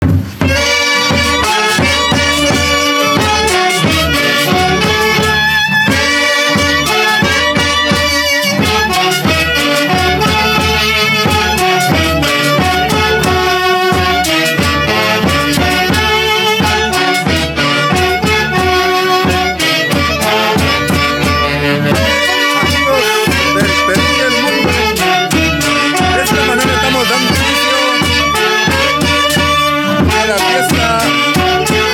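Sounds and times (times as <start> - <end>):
folk orchestra playing: 0.0 - 31.9.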